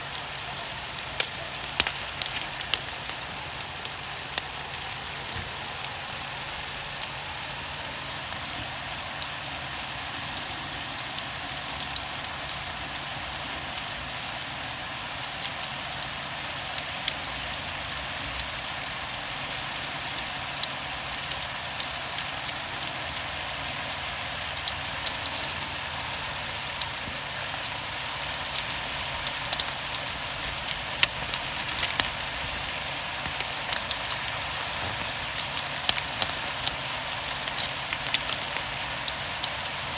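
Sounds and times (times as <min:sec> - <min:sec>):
raindrops tapping close by: 0:00.0 - 0:39.9
steady rain falling: 0:00.0 - 0:39.9.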